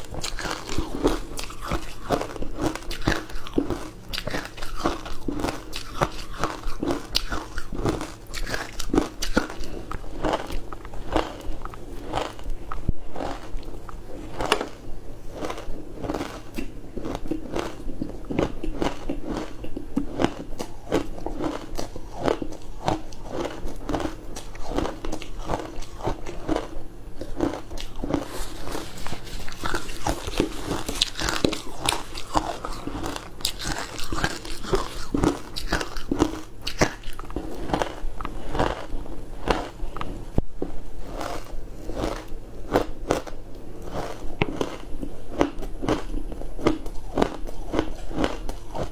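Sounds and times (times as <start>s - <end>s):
crunchy chewing: 0.0s - 48.9s.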